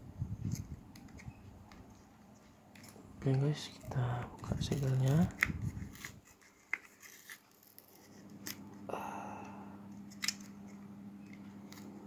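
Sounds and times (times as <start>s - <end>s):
steady low hum: 0.0s - 6.2s, 8.0s - 12.0s
plastic packaging clicks and scrape: 0.4s - 8.7s, 10.0s - 12.0s.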